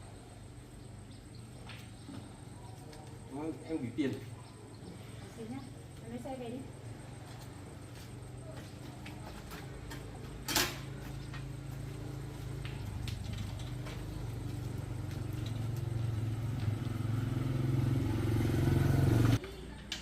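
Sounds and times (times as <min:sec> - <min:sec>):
motorcycle engine humming: 0:00.0 - 0:19.7.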